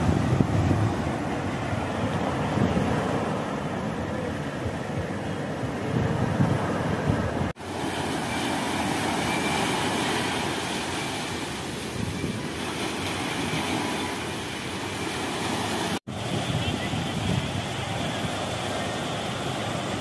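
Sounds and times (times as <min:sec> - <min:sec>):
surf washing onto sand: 0:00.0 - 0:20.0
wind on microphone: 0:00.0 - 0:20.0.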